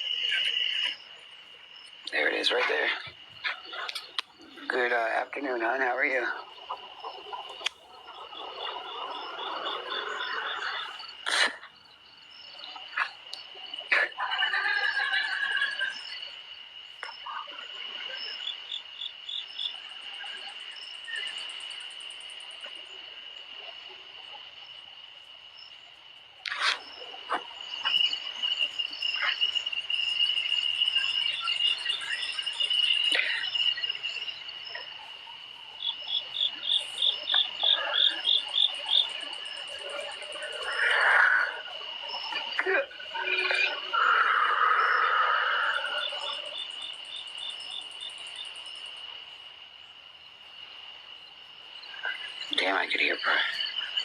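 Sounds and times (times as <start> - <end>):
insects shrilling and trilling: 0.0 - 54.0.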